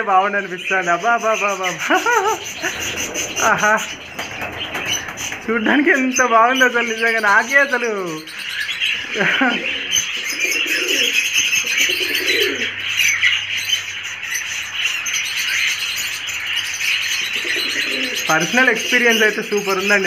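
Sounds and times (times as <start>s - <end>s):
small birds chirping: 0.0s - 20.0s
pigeons cooing: 0.4s - 20.0s.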